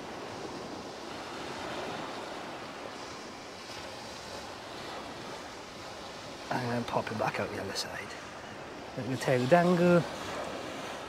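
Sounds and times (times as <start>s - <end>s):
waves breaking on shingle beach: 0.0s - 11.0s.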